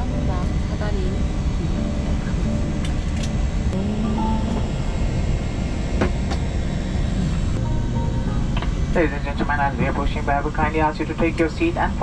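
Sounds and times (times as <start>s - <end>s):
quiet background music: 0.0s - 6.0s, 7.5s - 12.0s
low rumble of airliner cabin: 0.0s - 12.0s.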